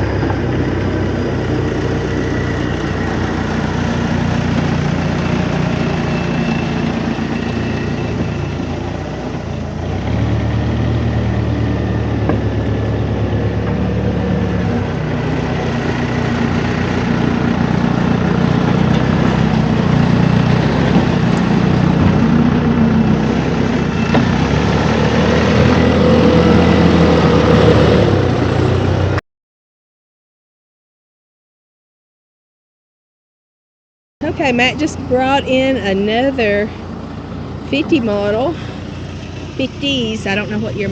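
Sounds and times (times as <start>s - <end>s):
heavy vehicle engine running: 0.0s - 29.2s, 34.2s - 40.9s.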